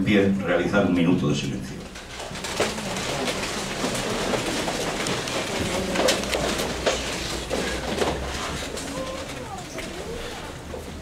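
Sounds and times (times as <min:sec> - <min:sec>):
crowd shuffling and rustling: 0:00.0 - 0:11.0.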